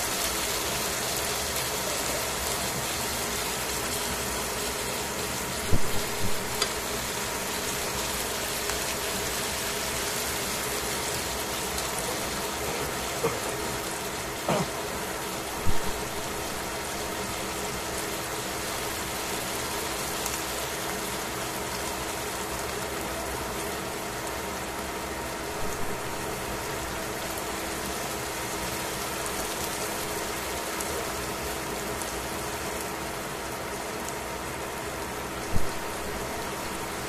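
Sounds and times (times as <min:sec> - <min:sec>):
chicken sizzling in oil: 0:00.0 - 0:37.0.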